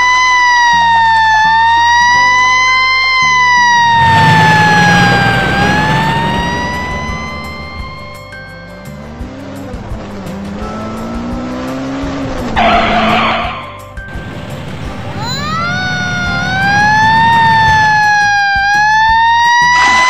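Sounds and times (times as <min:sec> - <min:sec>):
fire engine siren wailing: 0:00.0 - 0:08.7, 0:12.6 - 0:20.0
background music: 0:00.0 - 0:20.0
cartoon car engine hum: 0:00.0 - 0:20.0.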